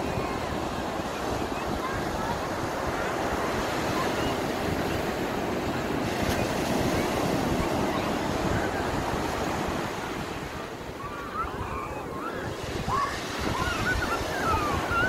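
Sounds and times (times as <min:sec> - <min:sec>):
surf breaking on sandy beach: 0:00.0 - 0:15.0
wind buffeting microphone: 0:00.0 - 0:15.0.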